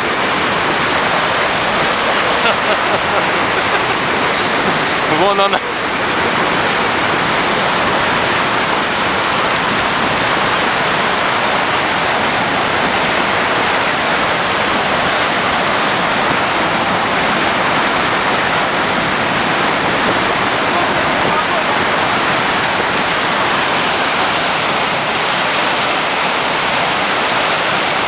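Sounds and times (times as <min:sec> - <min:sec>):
river water rushing through dam gate: 0:00.0 - 0:28.0.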